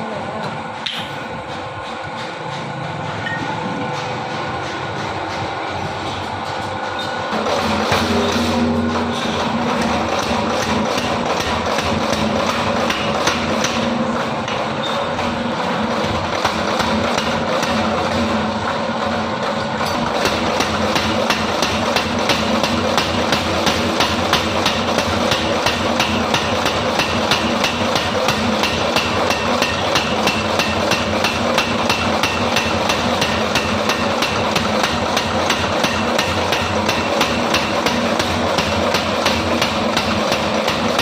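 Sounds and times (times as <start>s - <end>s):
machine humming: 0.0s - 41.0s
power hammer striking metal: 0.8s - 1.4s, 2.0s - 18.5s, 19.5s - 41.0s.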